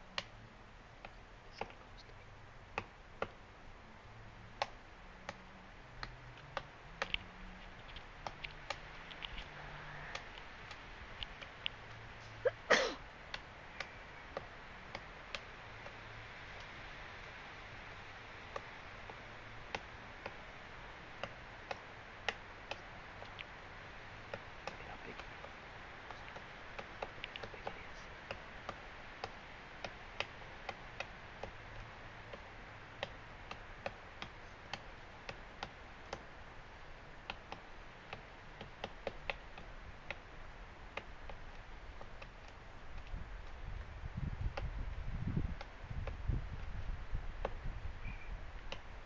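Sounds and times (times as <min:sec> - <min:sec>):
faint steady hiss: 0:00.0 - 0:49.0
woodpecker tapping on wood: 0:00.1 - 0:03.4, 0:04.4 - 0:12.4, 0:13.1 - 0:17.4, 0:18.1 - 0:49.0.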